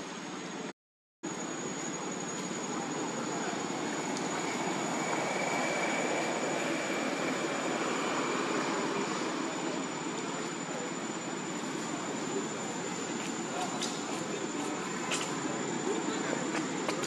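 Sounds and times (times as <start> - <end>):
high-pitched whine: 1.3 - 17.0.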